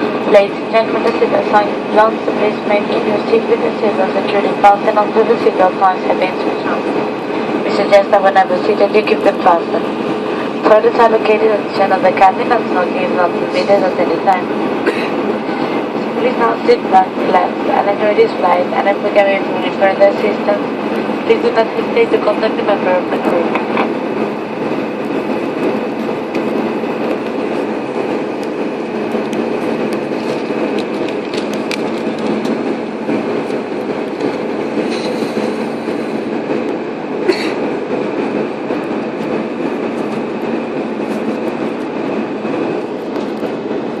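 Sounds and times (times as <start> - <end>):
airliner cabin rumble: 0.0 - 44.0.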